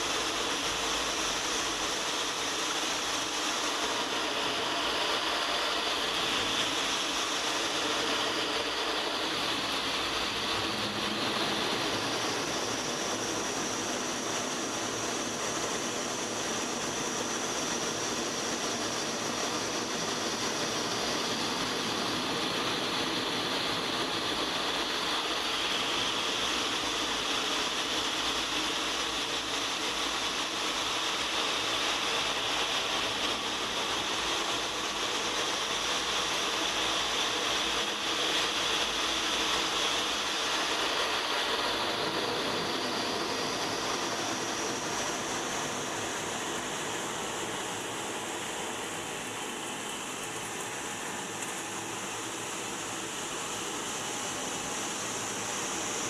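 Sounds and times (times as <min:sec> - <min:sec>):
jet engine and airflow rush: 0:00.0 - 0:56.0.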